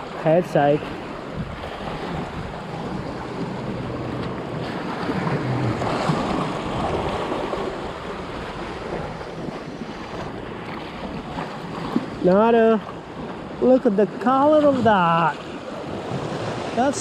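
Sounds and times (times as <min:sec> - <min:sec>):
sea waves washing: 0:00.0 - 0:17.0
wind buffeting microphone: 0:00.7 - 0:17.0.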